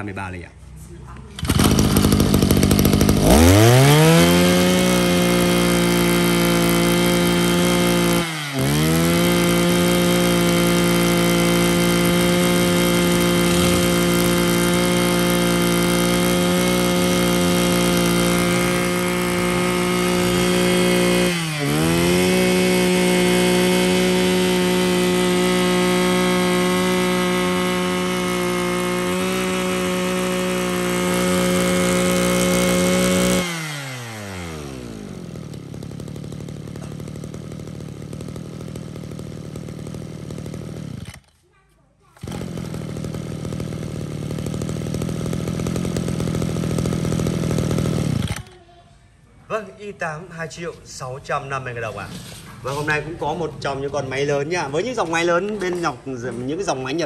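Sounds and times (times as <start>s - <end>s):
brush cutter engine whining: 1.1s - 41.4s, 42.2s - 48.6s, 50.8s - 57.0s.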